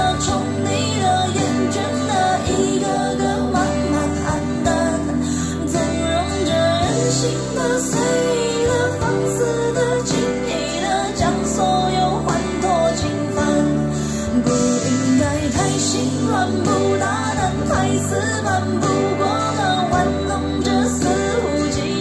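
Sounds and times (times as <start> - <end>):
band with guitar: 0.0 - 22.0
woman singing pop ballad: 0.0 - 22.0.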